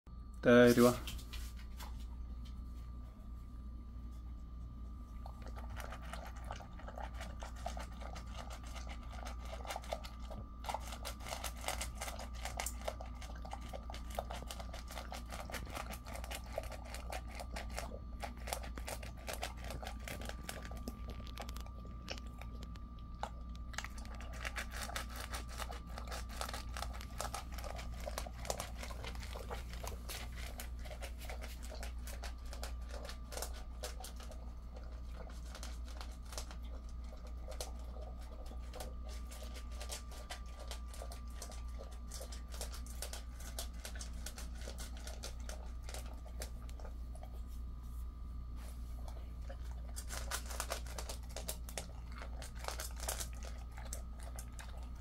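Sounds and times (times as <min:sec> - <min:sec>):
faint steady hum: 0:00.1 - 0:55.0
dog chewing wet food: 0:04.1 - 0:55.0.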